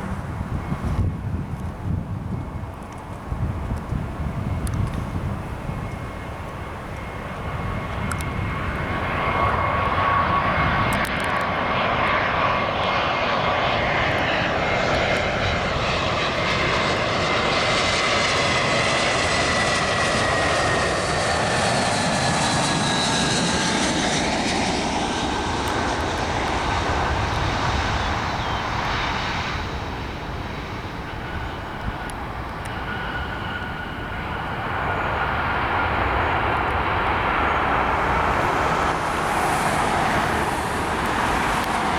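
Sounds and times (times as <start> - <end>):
jet airliner engines passing: 0.0 - 41.9.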